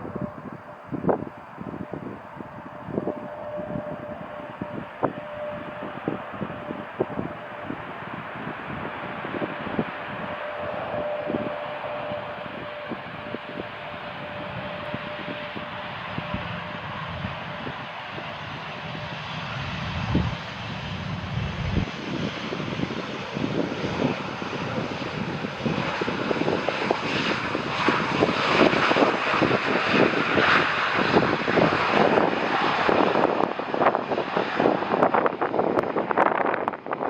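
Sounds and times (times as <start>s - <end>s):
jet airliner engine noise: 0.0s - 37.0s.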